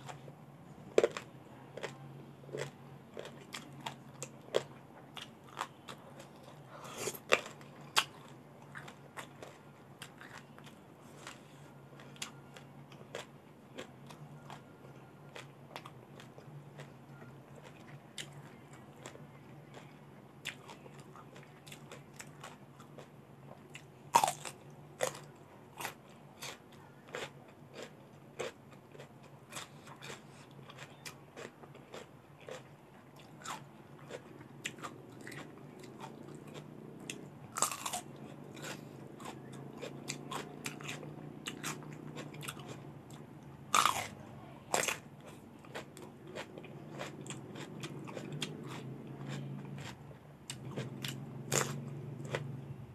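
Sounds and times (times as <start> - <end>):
crunchy vegetable chewing: 0.0 - 52.9
faint low hum: 0.0 - 52.9.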